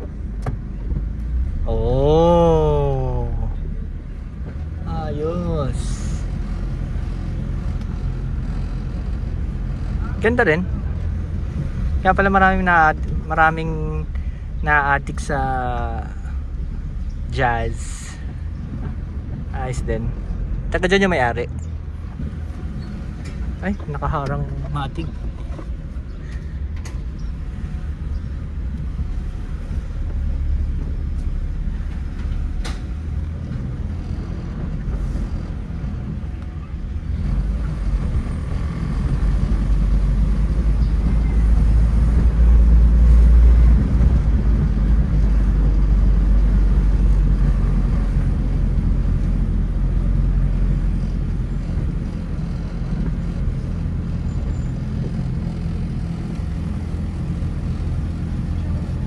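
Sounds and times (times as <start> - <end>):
car engine rumbling: 0.0 - 59.0
road noise: 0.0 - 59.0.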